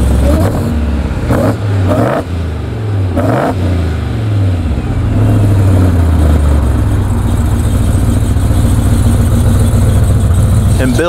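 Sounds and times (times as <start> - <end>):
truck engine revving and idling: 0.0 - 11.0.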